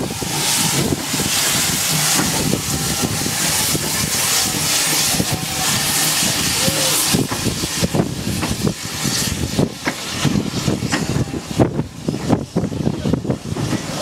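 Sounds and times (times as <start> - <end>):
steam hissing: 0.0 - 14.0
train coaches knocking and clicking: 0.0 - 14.0.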